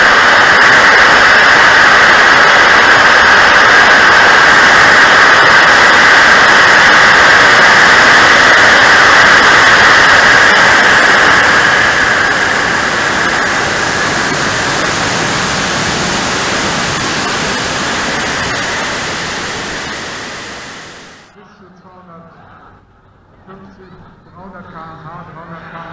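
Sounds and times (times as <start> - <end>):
rush of air: 0.0 - 21.3
jet turbine high hiss: 0.0 - 21.4.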